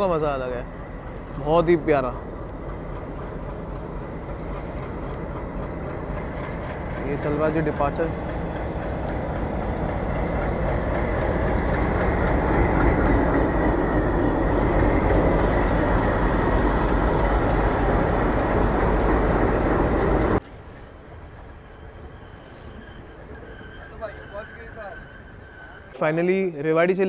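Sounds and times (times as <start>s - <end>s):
passing train rumble: 0.0s - 27.0s.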